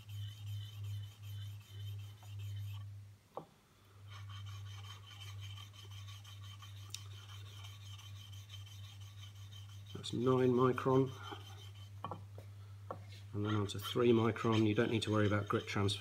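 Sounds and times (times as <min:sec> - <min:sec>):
chisel rubbing on polishing film: 0:00.0 - 0:02.9, 0:04.1 - 0:12.2, 0:13.3 - 0:16.0.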